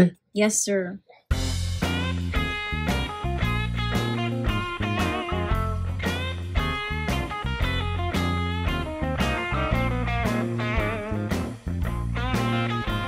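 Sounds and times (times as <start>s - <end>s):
plucked guitar tune: 1.3s - 13.0s
steady low bass: 1.3s - 13.0s.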